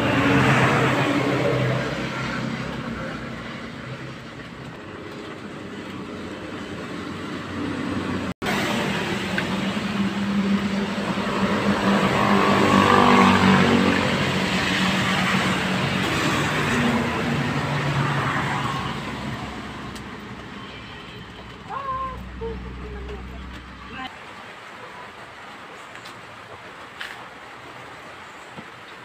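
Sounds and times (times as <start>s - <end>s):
vehicle engine passing: 0.0s - 24.1s.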